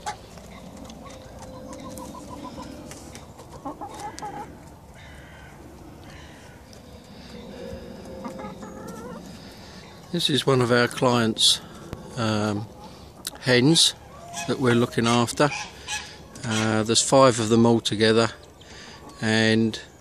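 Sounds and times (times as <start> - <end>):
hens clucking: 0.0 - 19.6.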